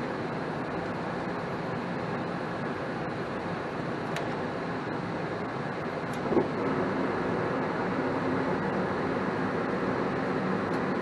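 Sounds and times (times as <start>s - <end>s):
gas furnace humming: 0.0s - 11.0s.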